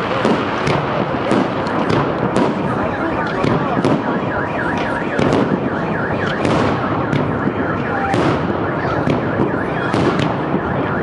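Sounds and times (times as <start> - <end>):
fireworks crackling: 0.0 - 11.0
car alarm sweeping tone: 1.4 - 11.0.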